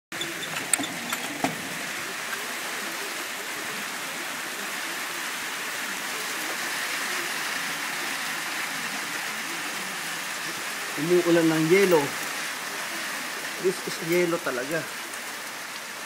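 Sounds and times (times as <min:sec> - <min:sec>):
hail and rain on concrete: 0:00.2 - 0:16.0.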